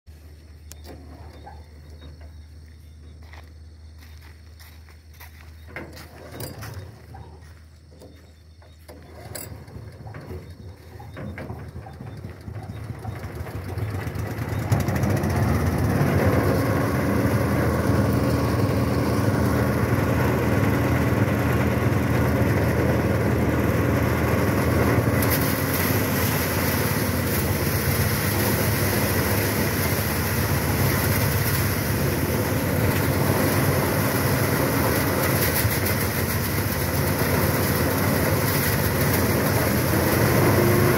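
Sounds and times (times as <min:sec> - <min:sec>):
threshing machine humming: 0:00.1 - 0:04.0, 0:05.6 - 0:40.9.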